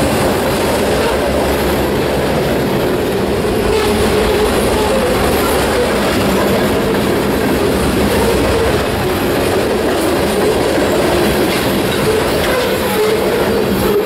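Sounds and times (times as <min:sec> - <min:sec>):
steel wheels on rails: 0:00.0 - 0:14.0.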